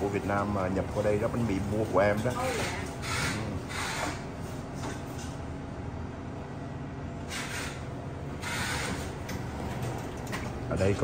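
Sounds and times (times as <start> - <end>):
refrigeration hum: 0.0 - 11.0.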